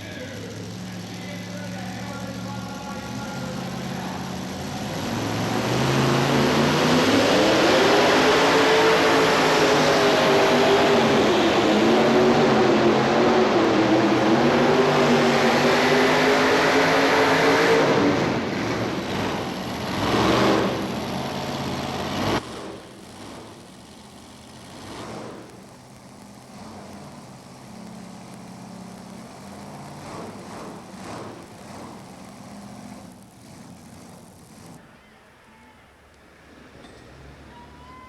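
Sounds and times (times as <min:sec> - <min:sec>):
tractor engine bogging down: 0:00.0 - 0:16.6, 0:17.8 - 0:34.8.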